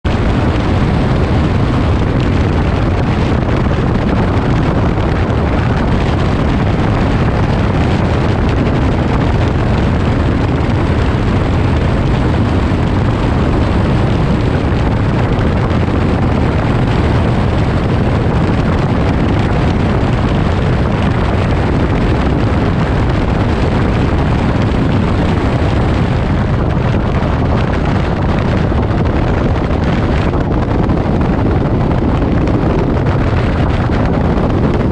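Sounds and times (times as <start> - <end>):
aircraft engine and rushing air: 0.0 - 34.9.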